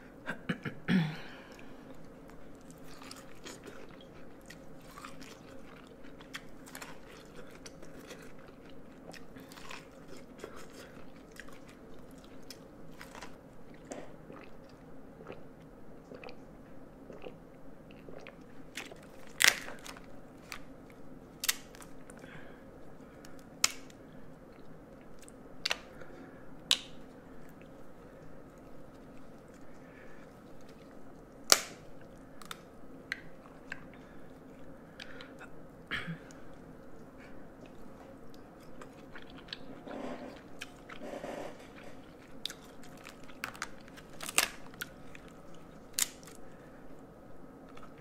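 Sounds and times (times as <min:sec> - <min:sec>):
person chewing corn: 0:01.4 - 0:35.6, 0:36.3 - 0:46.7, 0:47.6 - 0:48.0.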